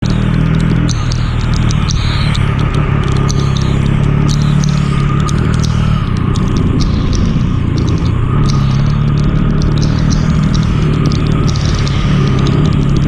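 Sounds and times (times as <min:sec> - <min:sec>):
motorcycle engine running: 0:00.0 - 0:13.0
sharp high ticks: 0:00.0 - 0:13.0.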